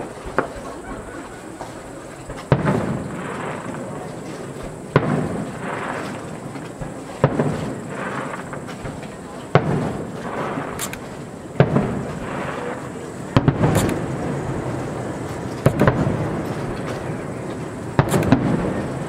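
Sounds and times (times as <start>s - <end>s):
firework shells bursting: 2.1s - 19.0s.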